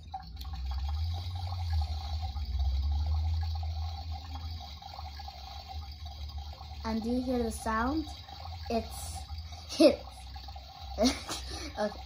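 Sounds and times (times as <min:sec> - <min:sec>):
low hum: 0:00.0 - 0:12.0
toy dishwasher pump spraying water: 0:00.0 - 0:12.0.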